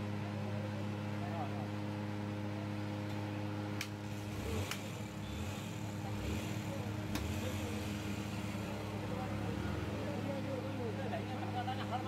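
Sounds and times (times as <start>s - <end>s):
steady engine-like hum: 0.0s - 12.0s.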